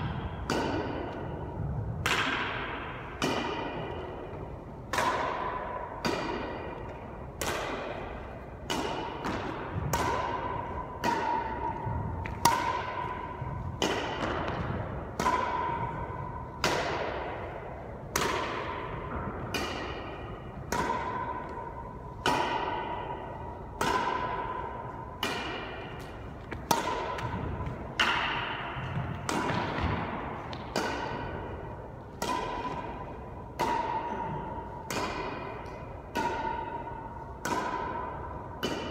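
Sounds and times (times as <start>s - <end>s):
racket hitting shuttlecock: 0.0s - 38.9s.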